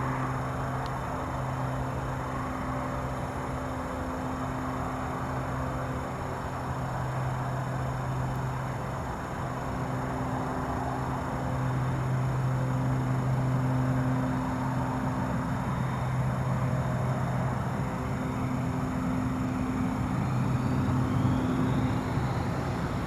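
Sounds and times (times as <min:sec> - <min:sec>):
turboprop aircraft humming: 0:00.0 - 0:23.0.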